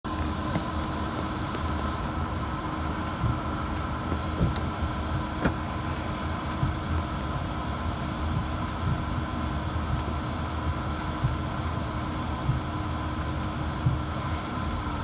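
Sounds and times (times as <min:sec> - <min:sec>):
jet cabin rumble and whine: 0:00.1 - 0:15.0.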